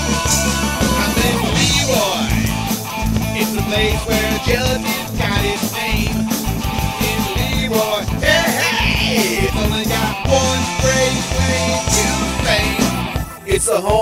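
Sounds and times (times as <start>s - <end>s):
electric guitar lead: 0.0s - 13.5s
bass guitar: 0.0s - 14.0s
drums: 0.0s - 14.0s.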